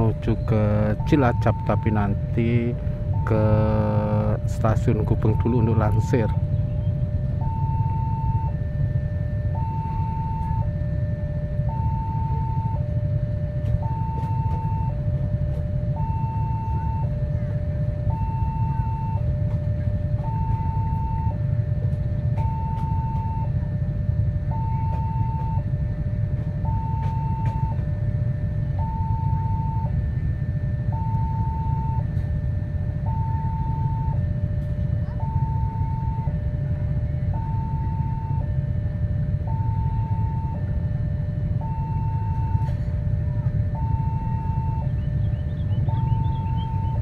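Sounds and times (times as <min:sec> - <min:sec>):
level crossing alarm ringing: 0:00.0 - 0:47.0
low rumble: 0:00.0 - 0:47.0.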